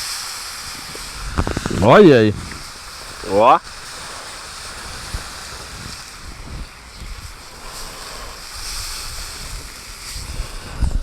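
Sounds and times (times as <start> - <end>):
meat sizzling over fire: 0.0 - 11.0
wind buffeting microphone: 0.0 - 11.0.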